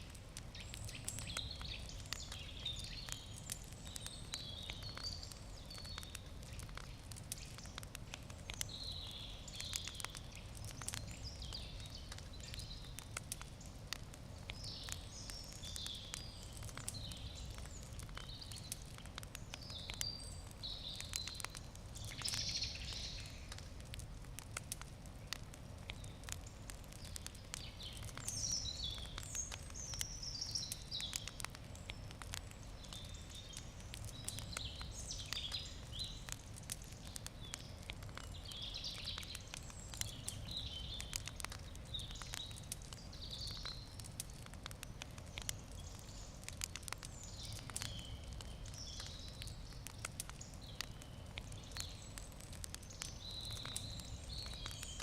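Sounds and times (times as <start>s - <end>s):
campfire crackling and popping: 0.0s - 55.0s
birds chirping: 0.4s - 13.7s, 14.4s - 23.6s, 25.9s - 44.0s, 45.1s - 55.0s.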